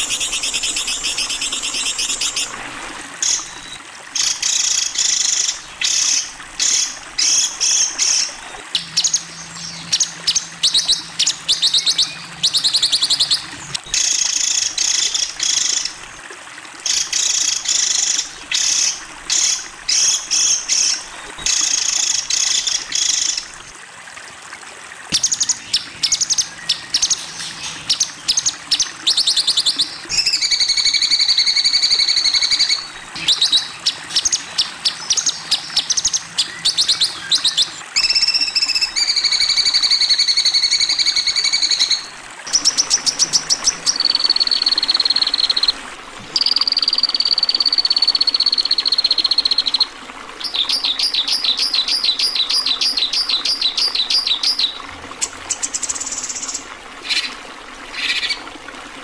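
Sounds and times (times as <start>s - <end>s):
songbird song: 0.0s - 2.6s, 3.2s - 16.2s, 25.1s - 58.5s.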